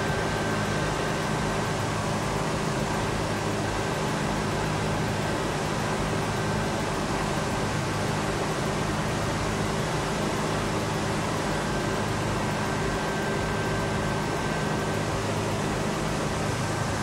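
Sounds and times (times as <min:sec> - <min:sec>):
faint high whine: 0:00.0 - 0:17.0
mechanical drone with low hum: 0:00.0 - 0:17.0.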